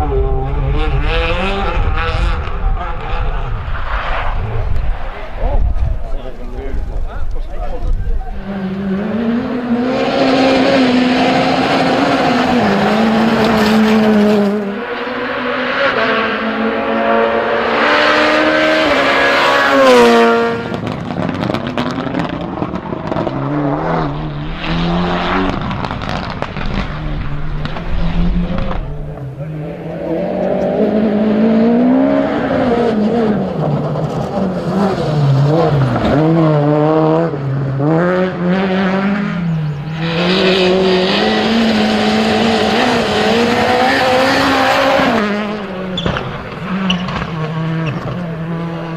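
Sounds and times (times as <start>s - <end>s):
rally car engine revving: 0.0s - 48.9s.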